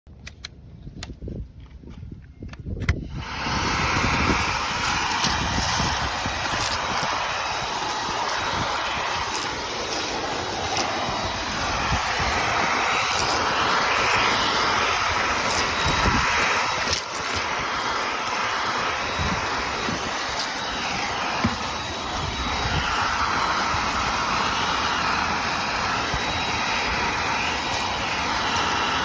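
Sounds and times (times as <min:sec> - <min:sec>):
stick vacuum running: 0:03.0 - 0:29.0.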